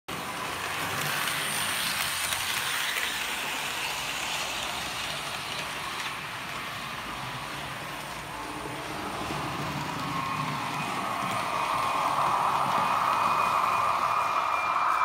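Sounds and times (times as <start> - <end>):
model train whirring on rails: 0.1 - 15.0.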